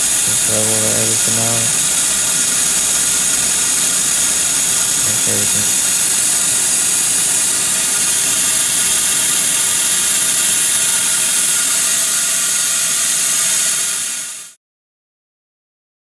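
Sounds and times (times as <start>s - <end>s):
angle grinder on steel: 0.0s - 14.6s.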